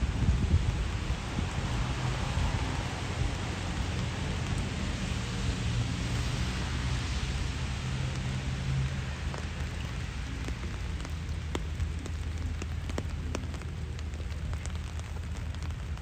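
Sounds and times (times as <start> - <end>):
low rumble: 0.0 - 16.0
rain drops ticking: 0.0 - 16.0.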